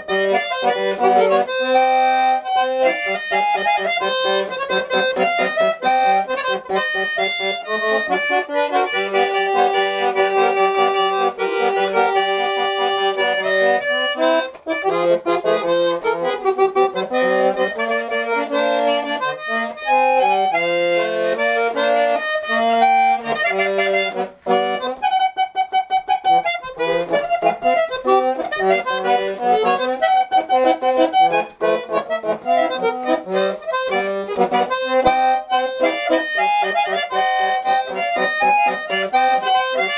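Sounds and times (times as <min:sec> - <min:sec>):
button accordion melody: 0:00.0 - 0:39.9.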